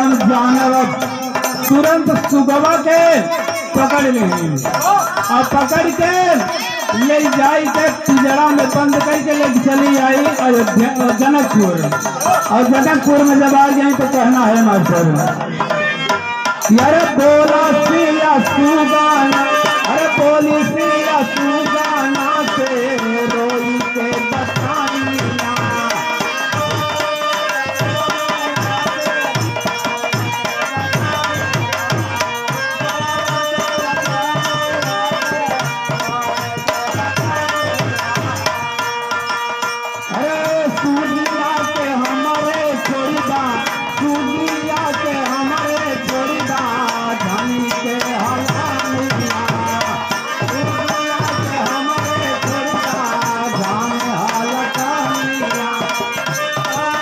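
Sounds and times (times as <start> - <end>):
hand drum rhythm: 0.0 - 57.0
man singing into microphone: 0.0 - 57.0.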